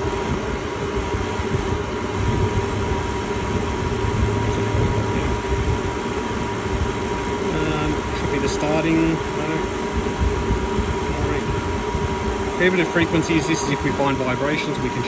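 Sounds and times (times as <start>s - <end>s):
low machinery rumble: 0.0s - 15.0s
machinery whine: 0.0s - 15.0s.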